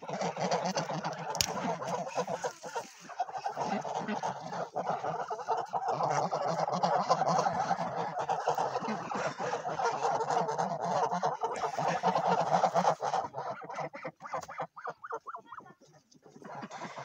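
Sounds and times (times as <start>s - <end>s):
geese honking and cackling: 0.0s - 17.0s.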